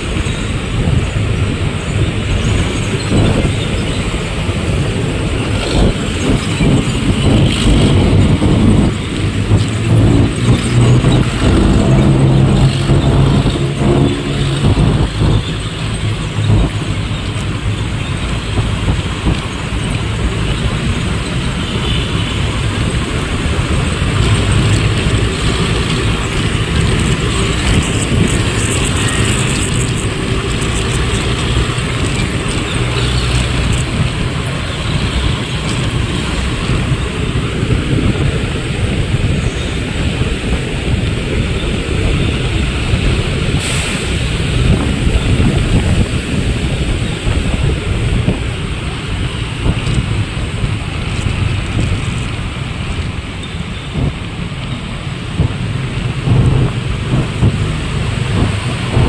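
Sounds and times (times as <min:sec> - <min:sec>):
road and wind noise: 0:00.0 - 0:59.0
truck engine drone: 0:00.0 - 0:59.0.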